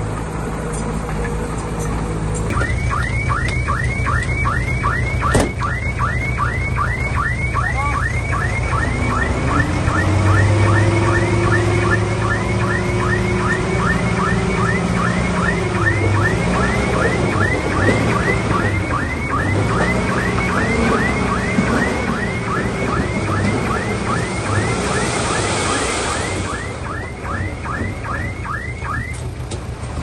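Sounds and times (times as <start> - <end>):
diesel engine revving: 0.0 - 30.0
electronic chirping alarm: 2.5 - 29.2.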